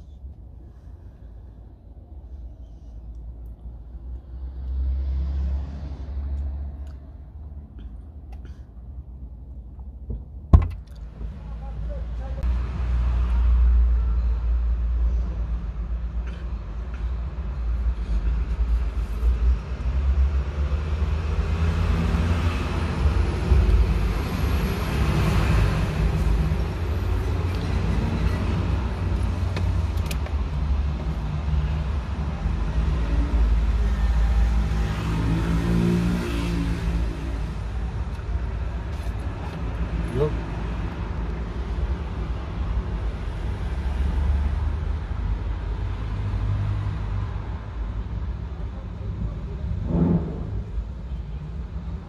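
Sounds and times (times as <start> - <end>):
car engines rumbling: 0.0 - 52.0.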